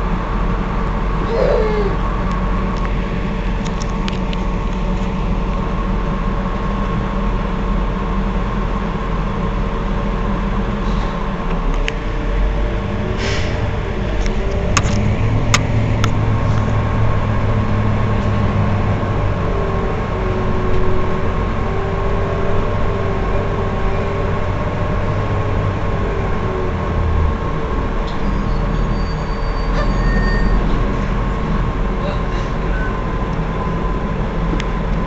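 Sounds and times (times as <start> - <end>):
bus engine idling: 0.0 - 35.0.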